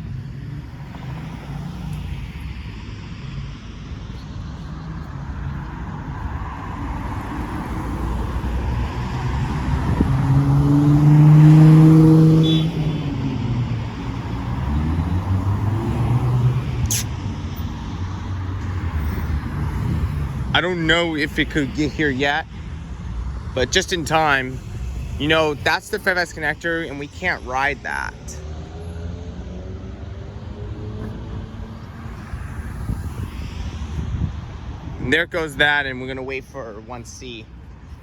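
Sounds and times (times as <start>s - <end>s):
bus diesel engine passing: 0.0s - 35.0s
road traffic rumble: 0.0s - 38.0s.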